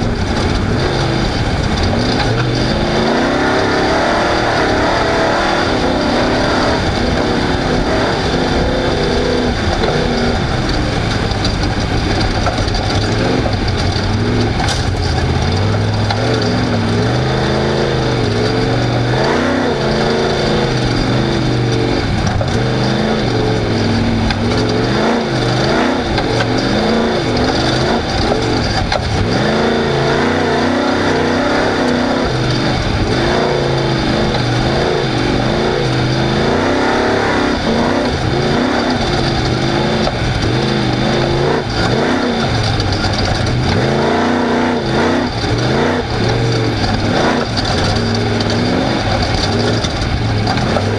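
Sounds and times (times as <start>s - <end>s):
constant noisy rush: 0.0s - 50.9s
race car engine revving: 0.0s - 50.9s.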